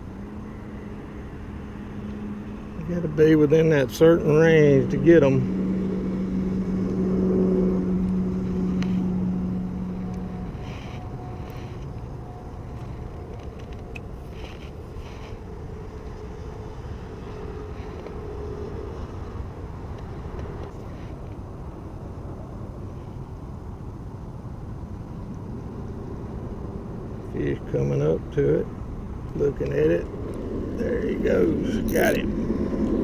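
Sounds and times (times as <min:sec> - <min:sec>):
low motor hum: 0:00.0 - 0:33.0.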